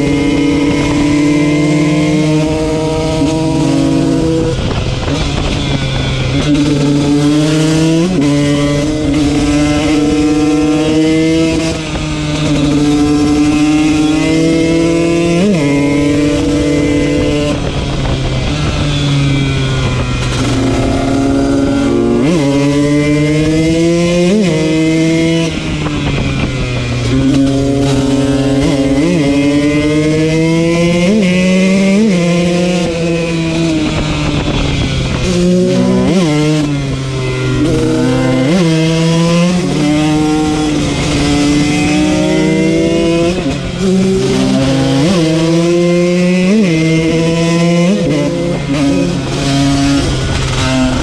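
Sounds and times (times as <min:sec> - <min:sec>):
motorcycle engine revving high: 0:00.0 - 0:51.0.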